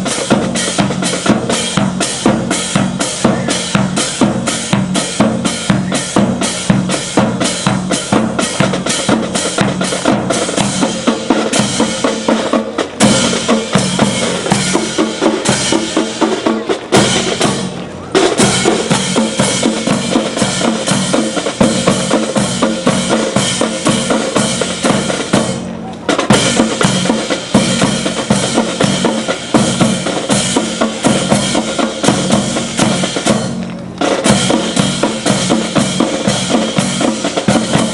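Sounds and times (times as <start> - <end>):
drum-heavy music: 0.0 - 37.9.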